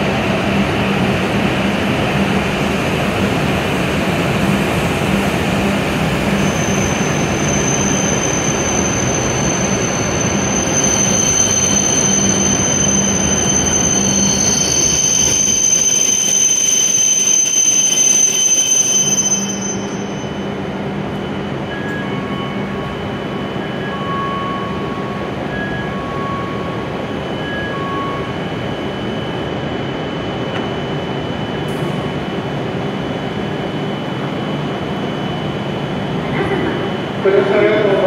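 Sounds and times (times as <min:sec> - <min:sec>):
stopped train humming: 0:00.0 - 0:38.0
train braking whine and squeal: 0:00.2 - 0:38.0.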